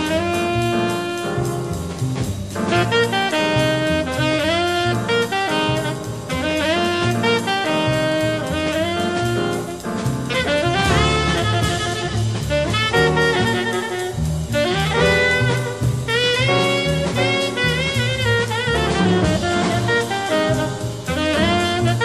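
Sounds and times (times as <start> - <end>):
drum kit: 0.0 - 22.0
jazz horn melody: 0.0 - 22.0.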